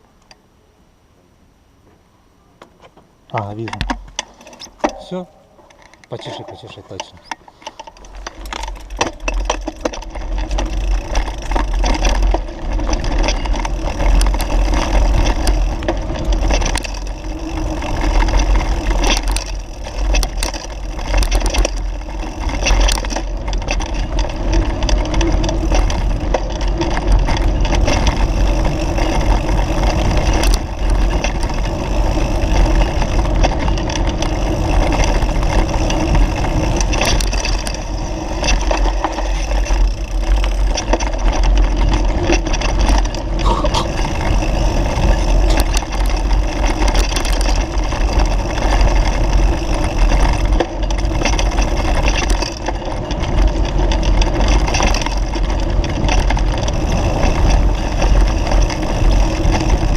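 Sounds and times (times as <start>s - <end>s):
vehicle rumbling on dirt road: 2.8s - 59.9s.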